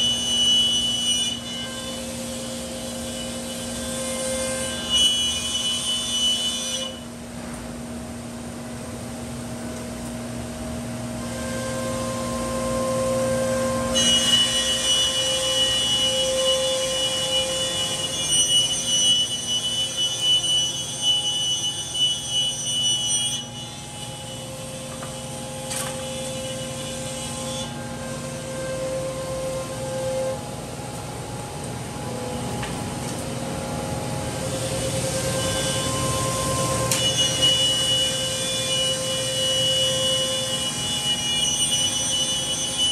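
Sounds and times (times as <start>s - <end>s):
cnc router humming: 0.0s - 42.9s.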